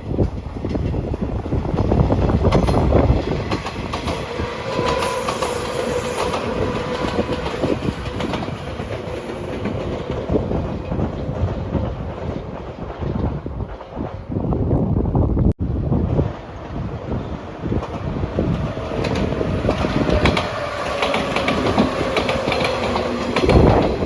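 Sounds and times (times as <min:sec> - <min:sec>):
train wheels clacking over rail joints: 0:00.1 - 0:14.3, 0:17.7 - 0:24.0.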